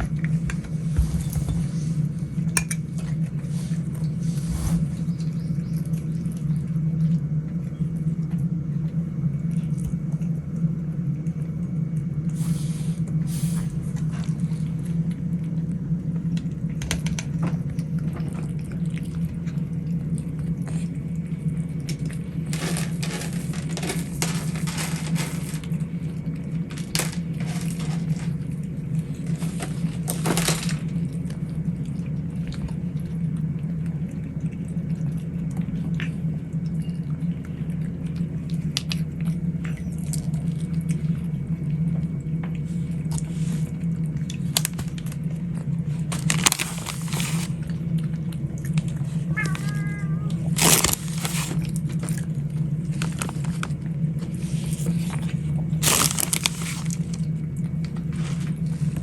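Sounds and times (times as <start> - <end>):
cats chewing food: 0.0 - 59.0
low hum: 0.0 - 59.0.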